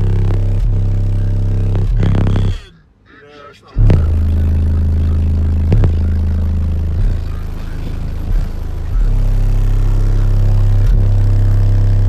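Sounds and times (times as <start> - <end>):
deep bass notes from subwoofer: 0.0 - 2.7, 3.8 - 12.0.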